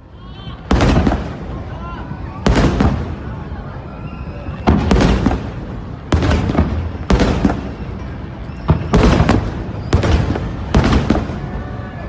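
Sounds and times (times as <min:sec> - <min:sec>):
fireworks booming: 0:00.6 - 0:12.0.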